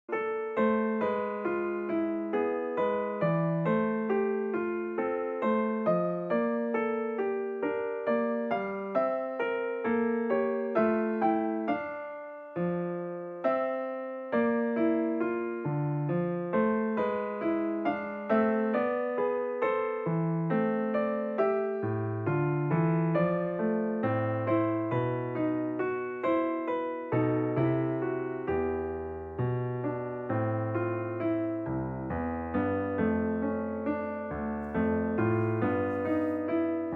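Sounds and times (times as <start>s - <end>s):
gentle solo piano melody: 0.1s - 36.9s.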